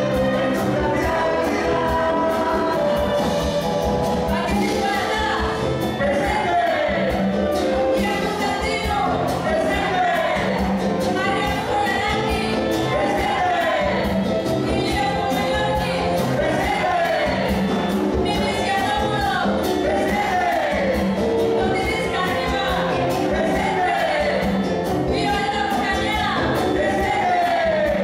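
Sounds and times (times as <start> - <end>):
group of voices singing: 0.0 - 28.0.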